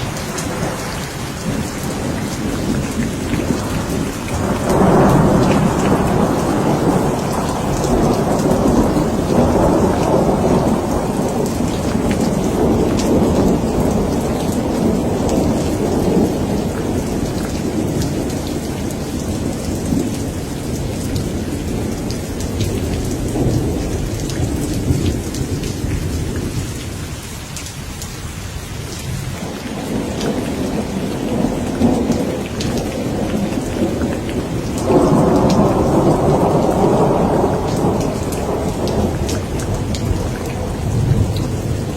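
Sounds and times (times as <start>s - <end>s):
rolling thunder: 0.0s - 27.2s, 29.0s - 41.9s
steady rain falling: 0.0s - 41.9s.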